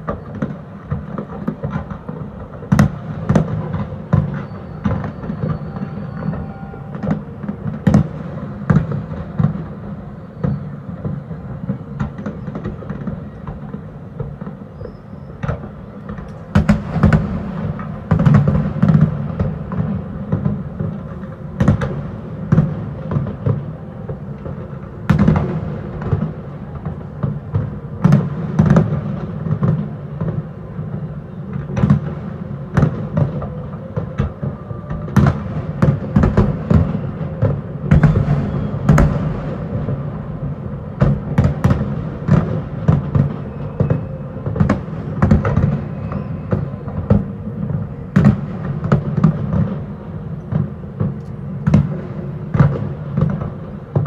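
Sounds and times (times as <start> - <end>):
continuous low rumble: 0.0 - 54.0
fireworks bursting: 0.0 - 54.0.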